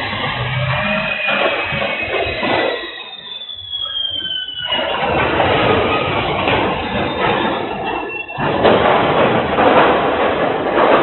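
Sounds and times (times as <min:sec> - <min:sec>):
freight train grinding and rumbling: 0:00.0 - 0:11.0.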